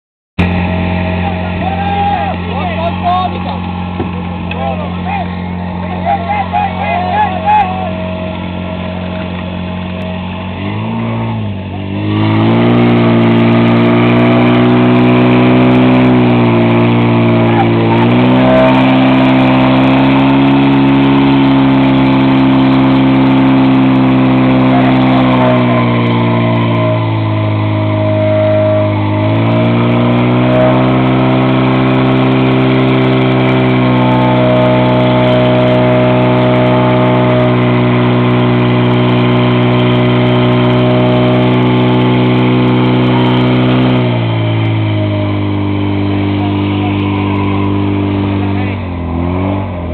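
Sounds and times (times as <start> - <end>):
pump engine running: 0.4 - 49.9.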